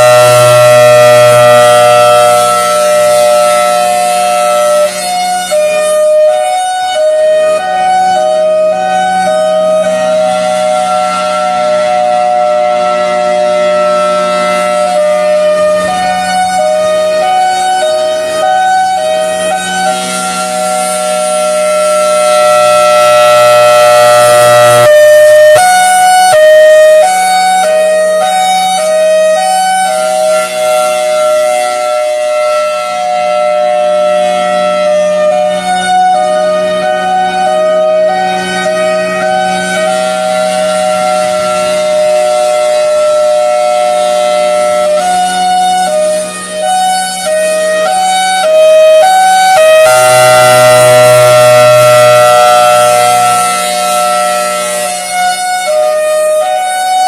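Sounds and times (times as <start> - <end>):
warning siren: 0.0 - 57.0.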